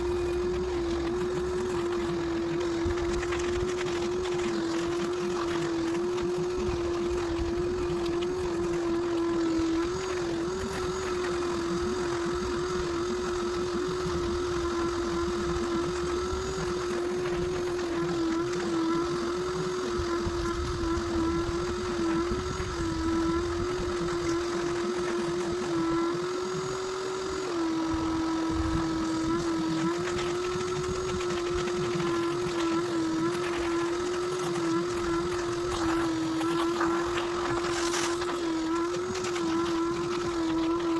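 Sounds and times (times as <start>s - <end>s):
small electric motor whine: 0.0s - 40.9s.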